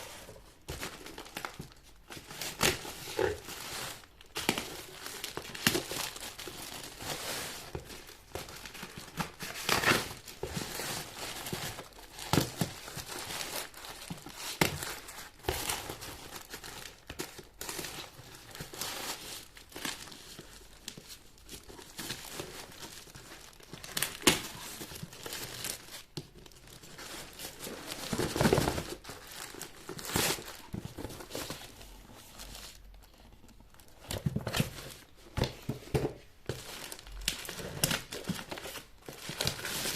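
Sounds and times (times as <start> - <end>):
packaging crinkling and rustling: 0.0 - 39.9.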